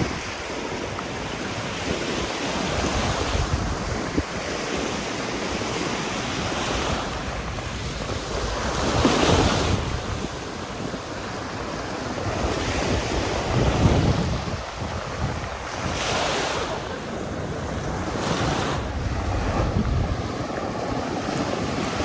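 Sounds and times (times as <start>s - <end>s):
surf breaking on sandy beach: 0.0s - 22.0s
wind rumbling on microphone: 0.0s - 22.0s.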